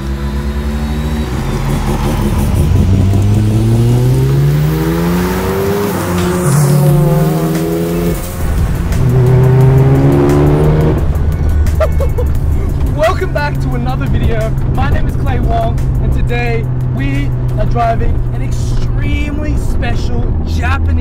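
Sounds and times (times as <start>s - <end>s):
rotary engine accelerating hard: 0.0s - 21.0s.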